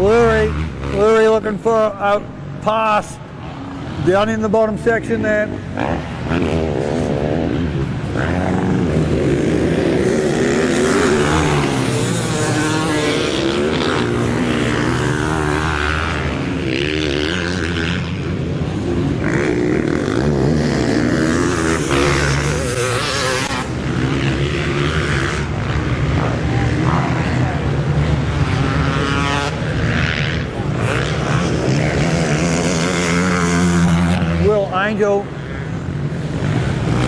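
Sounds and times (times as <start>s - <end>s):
motocross bikes revving: 0.0s - 37.0s.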